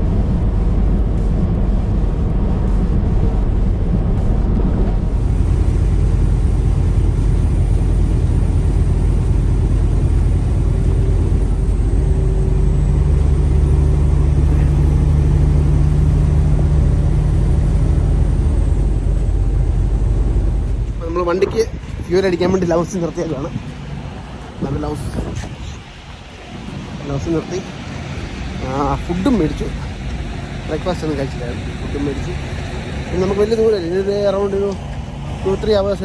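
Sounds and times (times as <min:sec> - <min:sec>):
low hum: 0:00.0 - 0:36.0
truck engine and road drone: 0:00.0 - 0:36.0.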